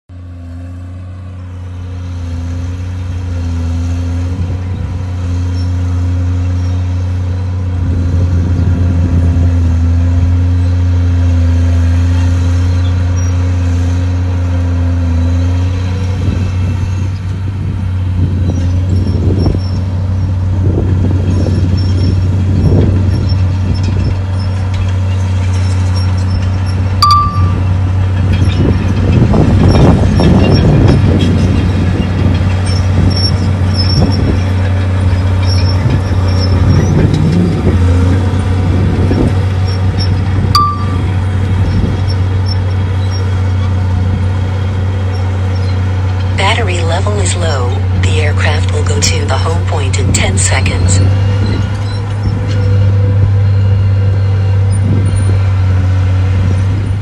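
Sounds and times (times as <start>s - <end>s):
diesel machinery engine drone: 0.1s - 57.0s.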